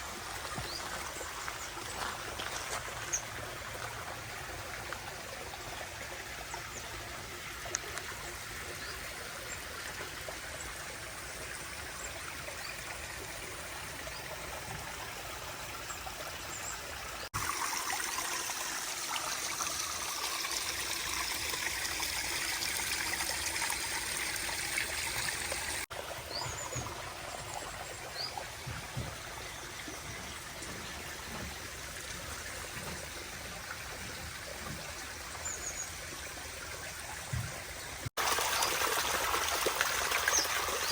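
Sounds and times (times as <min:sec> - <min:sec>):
water trickling over rocks: 0:00.0 - 0:40.9.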